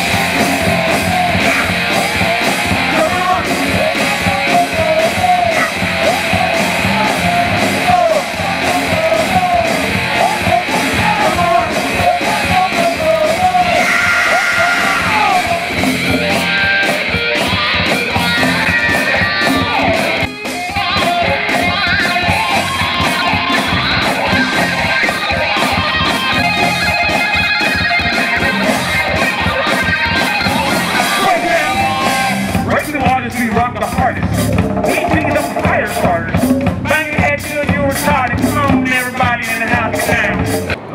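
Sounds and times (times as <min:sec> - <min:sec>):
live rock band playing: 0:00.0 - 0:40.8.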